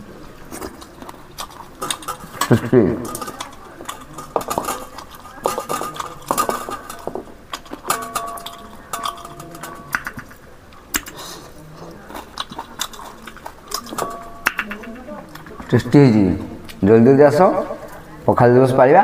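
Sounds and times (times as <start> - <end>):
dishes and utensils clinking: 0.0 - 16.7.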